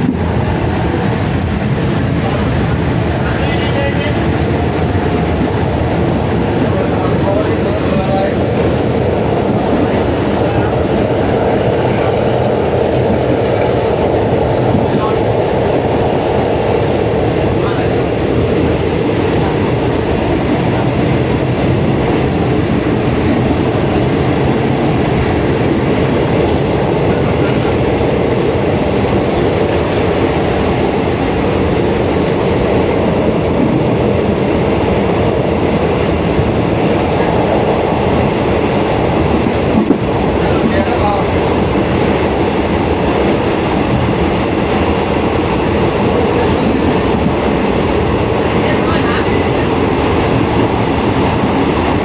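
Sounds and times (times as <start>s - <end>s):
train rumble and rail clatter: 0.0s - 52.0s.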